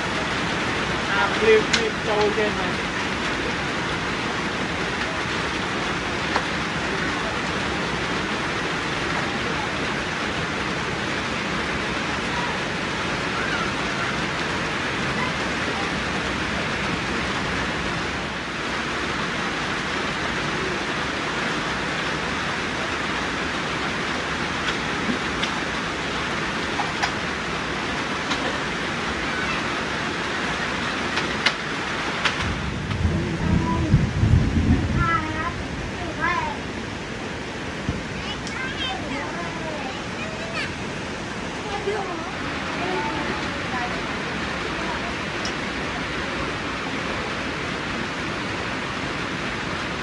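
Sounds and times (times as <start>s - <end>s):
steady rain hiss: 0.0s - 50.0s.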